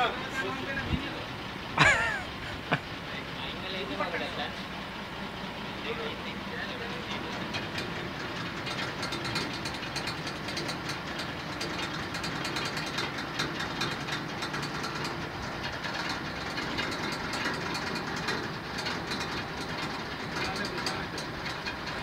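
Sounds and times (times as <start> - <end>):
machinery running: 0.0 - 22.0
rapid irregular clicking and clattering: 3.4 - 22.0.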